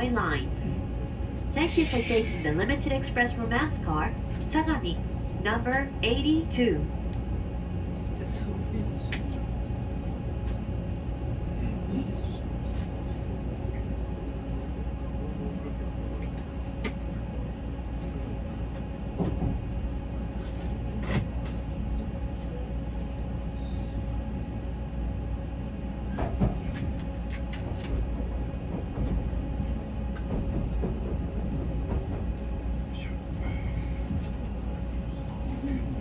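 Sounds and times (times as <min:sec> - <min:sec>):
train running low rumble: 0:00.0 - 0:36.0.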